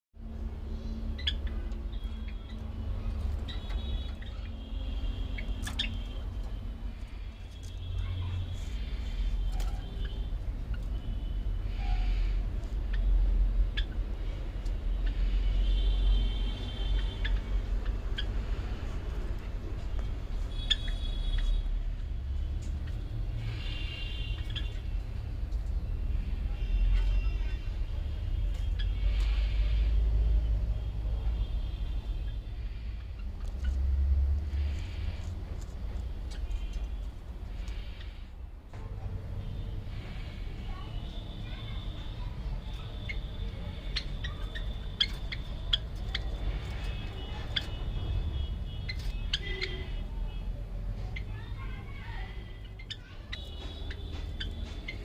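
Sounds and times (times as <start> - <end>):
small birds chirping: 0.2 - 21.6, 22.4 - 38.4, 39.6 - 55.0.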